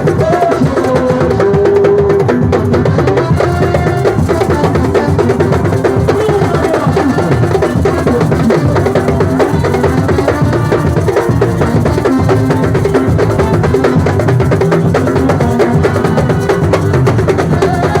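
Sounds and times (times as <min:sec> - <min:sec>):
percussion ensemble drumming: 0:00.0 - 0:18.0.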